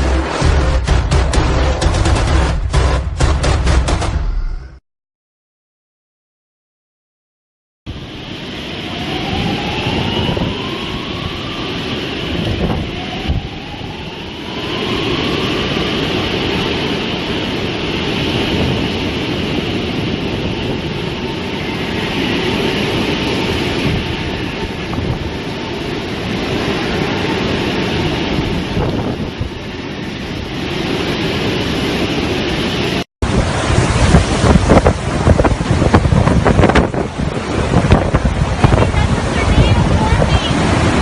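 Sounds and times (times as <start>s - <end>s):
storm wind roaring: 7.9s - 41.0s
wind buffeting microphone: 7.9s - 41.0s.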